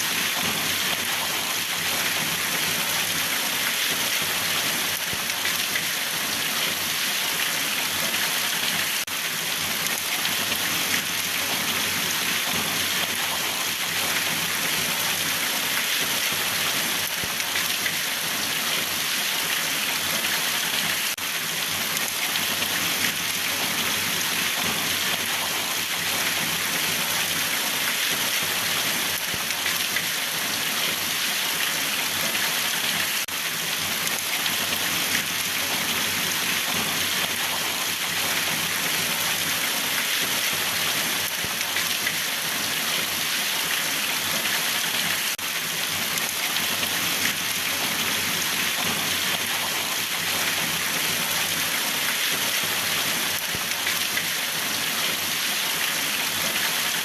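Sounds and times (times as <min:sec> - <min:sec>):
rain pattering on a surface: 0:00.1 - 0:57.0.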